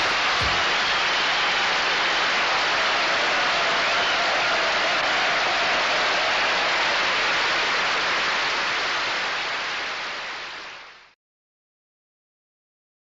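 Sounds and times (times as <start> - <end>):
studio audience applauding: 0.0 - 11.1.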